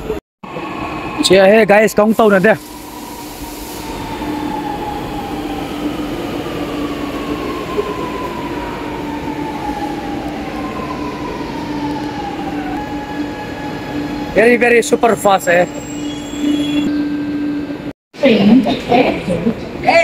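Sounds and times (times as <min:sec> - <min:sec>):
metro train rumble and whine: 0:00.0 - 0:20.0.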